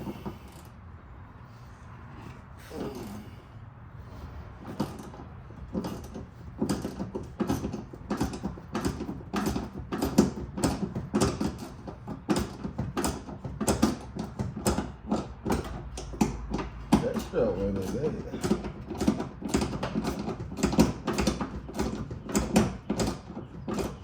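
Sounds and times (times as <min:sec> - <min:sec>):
mechanical clicks and knocks: 0:04.7 - 0:24.0.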